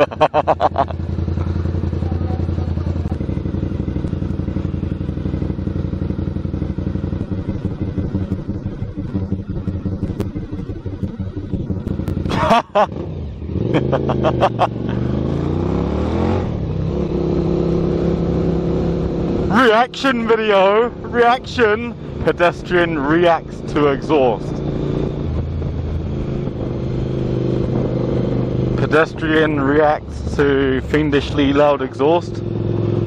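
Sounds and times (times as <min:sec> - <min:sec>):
loud motorcycle exhaust running: 0:00.0 - 0:33.0.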